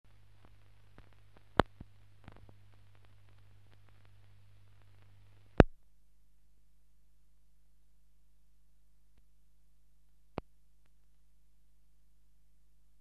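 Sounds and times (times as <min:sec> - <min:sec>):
faint crackle: 0:00.0 - 0:13.0.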